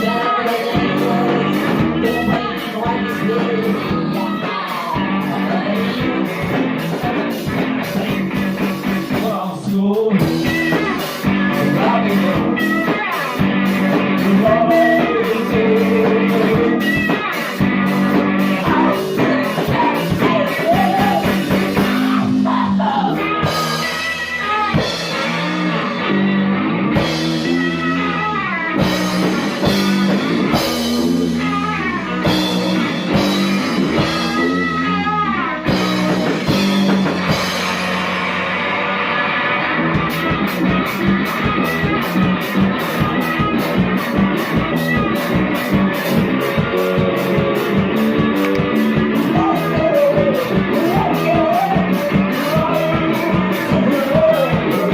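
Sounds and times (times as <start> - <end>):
person singing: 0.0 - 25.8, 27.3 - 37.1, 41.2 - 54.9
rock band playing: 0.0 - 54.9.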